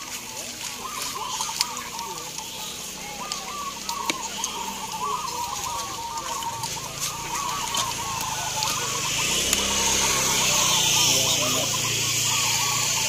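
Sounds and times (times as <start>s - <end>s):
doves cooing: 0.0s - 13.0s.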